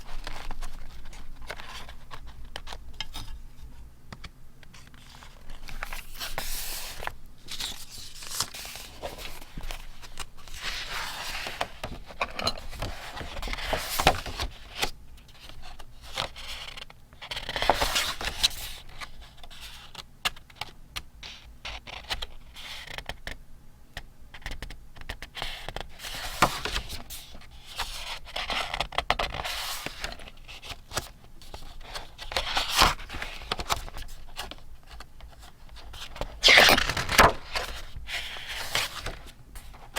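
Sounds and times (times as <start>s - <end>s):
paper rustling and crinkling: 0.0s - 3.8s, 4.7s - 20.6s, 25.4s - 39.9s.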